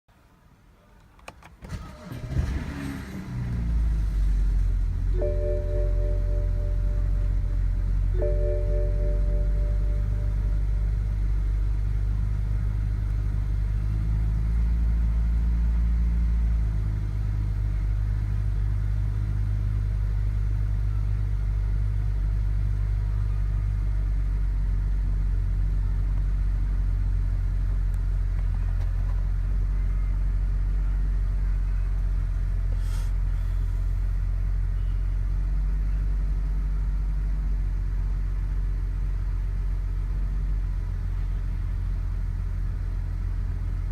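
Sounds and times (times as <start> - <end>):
car engine idling: 0.9 - 43.9.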